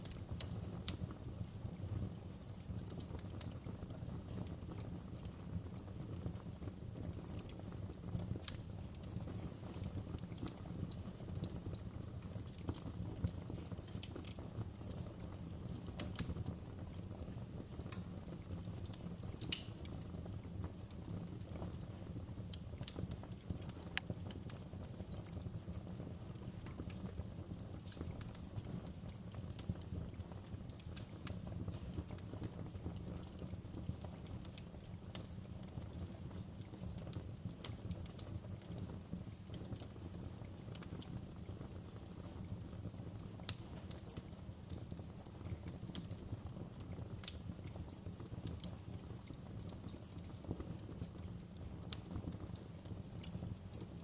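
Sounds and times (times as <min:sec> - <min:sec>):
fire crackling in fireplace: 0:00.0 - 0:54.0.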